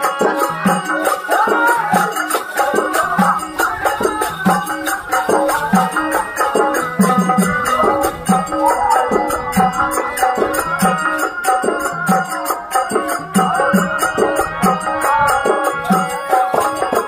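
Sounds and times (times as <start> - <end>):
hand drum beat: 0.0 - 17.0
harmonium melody: 0.0 - 17.0.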